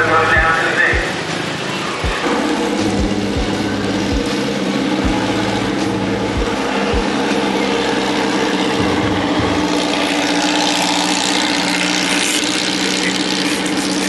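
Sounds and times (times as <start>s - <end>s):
low thumps: 0.0s - 11.9s
road and wind noise: 0.0s - 14.0s
vehicle engine running: 0.0s - 14.0s.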